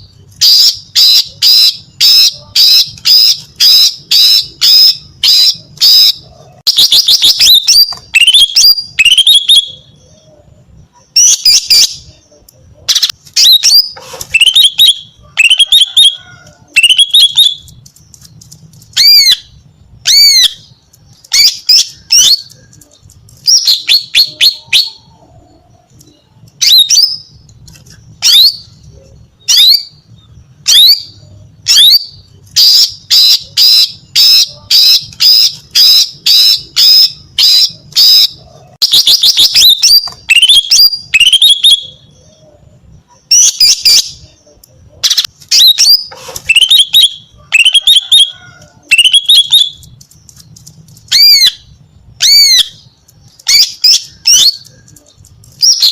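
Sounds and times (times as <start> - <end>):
bird calling: 0.0 - 18.3, 18.9 - 50.5.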